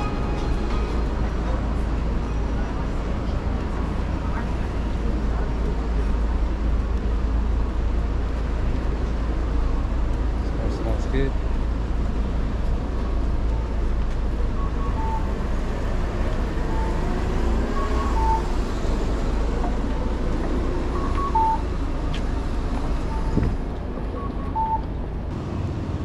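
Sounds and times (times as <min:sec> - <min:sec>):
crowd murmur: 0:00.0 - 0:25.4.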